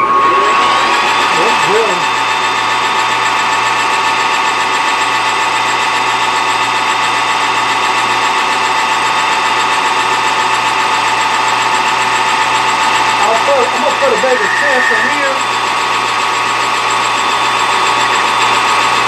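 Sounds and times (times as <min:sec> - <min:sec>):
metal lathe whining: 0:00.0 - 0:19.0.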